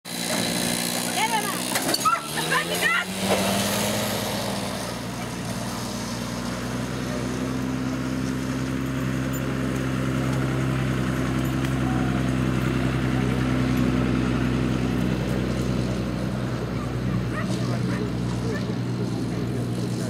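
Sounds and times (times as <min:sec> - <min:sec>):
engine running steadily: 0:00.1 - 0:20.0.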